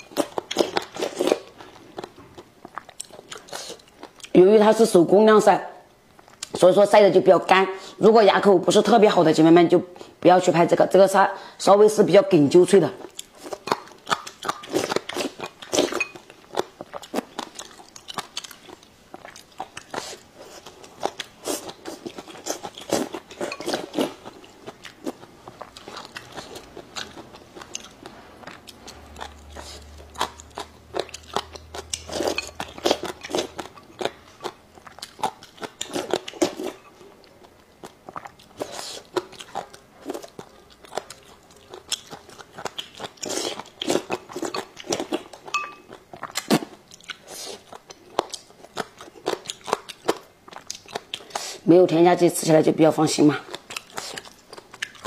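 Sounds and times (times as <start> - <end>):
person chewing crisp food: 0.0 - 4.4, 13.0 - 51.7, 53.4 - 55.0.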